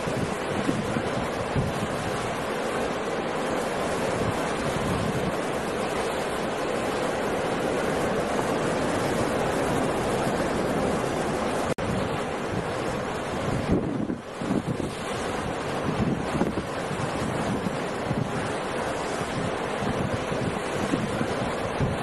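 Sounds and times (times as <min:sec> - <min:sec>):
heavy surf breaking: 0:00.0 - 0:22.0
strong wind: 0:00.0 - 0:22.0.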